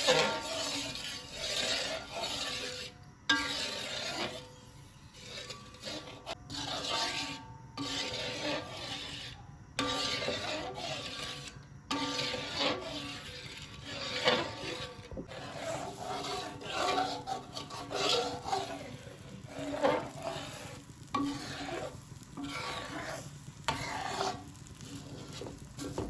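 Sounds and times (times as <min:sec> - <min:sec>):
spatula scraping a pan: 0:00.0 - 0:26.0.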